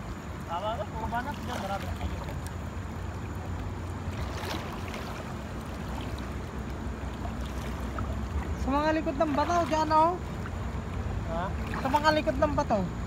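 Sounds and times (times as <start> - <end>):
sharp splashes: 0.0 - 12.6
steady low rumble: 0.0 - 13.0
water sloshing and splashing: 0.0 - 13.0.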